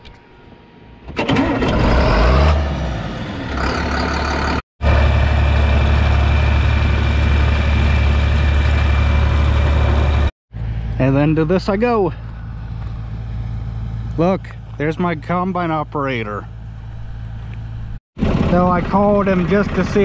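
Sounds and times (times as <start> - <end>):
tractor engine starting and running: 1.0 - 20.0.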